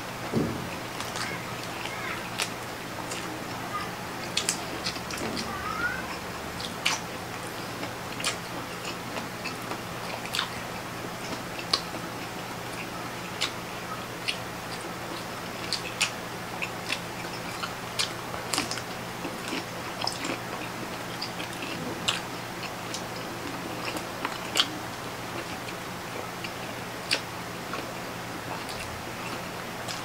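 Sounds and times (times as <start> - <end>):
steady low hum: 0.0 - 30.0
chewing and mouth sounds: 0.7 - 13.6, 14.2 - 30.0.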